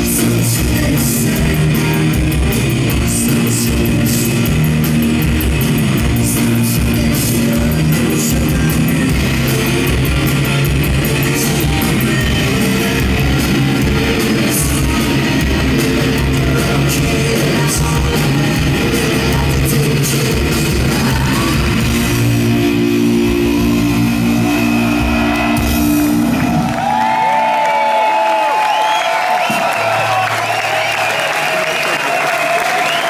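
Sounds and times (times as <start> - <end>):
live rock band playing: 0.0 - 27.6.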